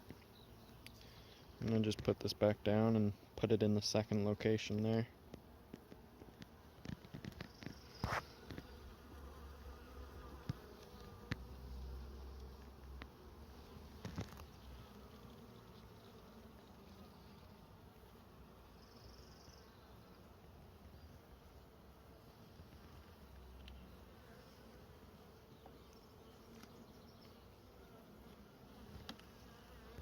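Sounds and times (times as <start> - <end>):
honeybees buzzing: 3.9 - 30.0.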